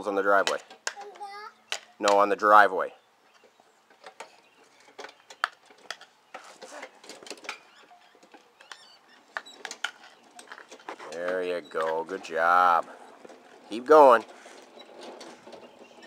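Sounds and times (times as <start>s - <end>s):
pedal tractor rolling on concrete: 0.0s - 16.0s.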